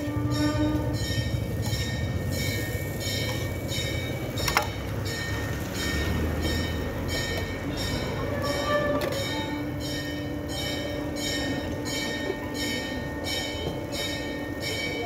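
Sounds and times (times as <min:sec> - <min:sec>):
music with bell-like tones: 0:00.3 - 0:15.0.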